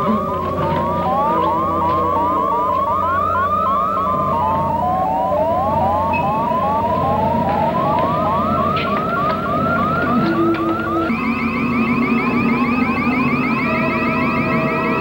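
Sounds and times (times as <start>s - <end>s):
low electronic hum: 0.0s - 15.0s
rising electronic chirps: 0.0s - 15.0s.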